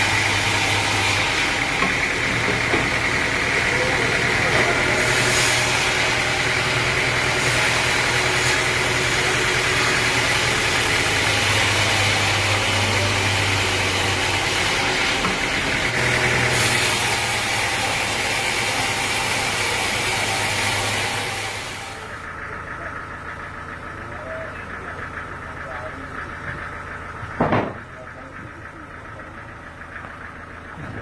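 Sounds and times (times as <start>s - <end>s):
engine running with hum and whine: 0.0s - 31.0s.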